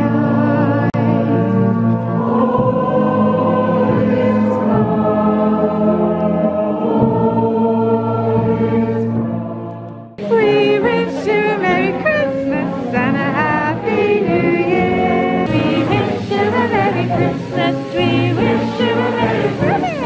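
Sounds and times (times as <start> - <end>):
choir and crowd singing carol: 0.0 - 20.0.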